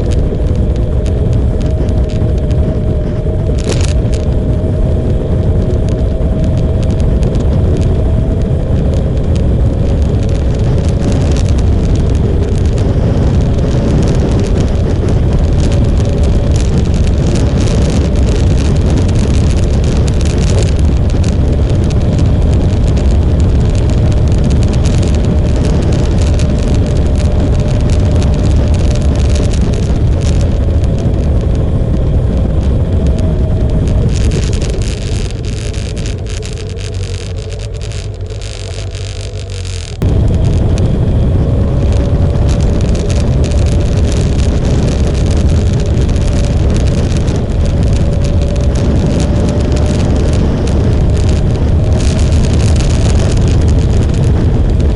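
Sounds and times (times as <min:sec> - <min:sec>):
motorcycle engine rumble: 0:00.0 - 0:54.9.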